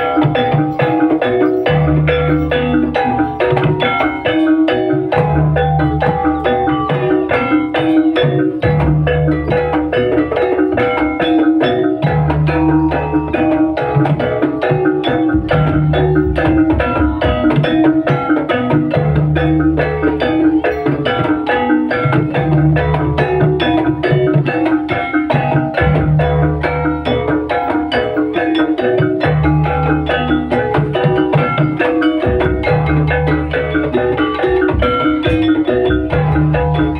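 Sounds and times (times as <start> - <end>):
drum: 0.0 - 36.9
struck metallophone notes: 0.0 - 36.9.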